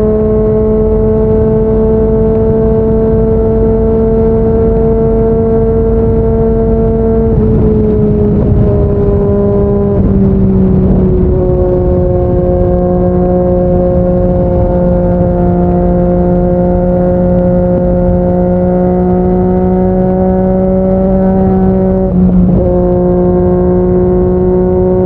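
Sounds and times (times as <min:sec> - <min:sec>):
motorcycle engine drone: 0:00.0 - 0:25.0
wind rush: 0:00.0 - 0:25.0.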